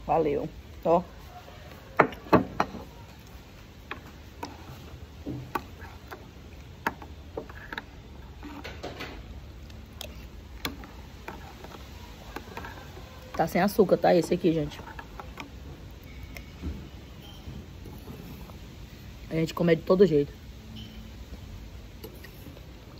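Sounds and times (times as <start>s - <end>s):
quiet eating sounds: 0.0s - 22.9s.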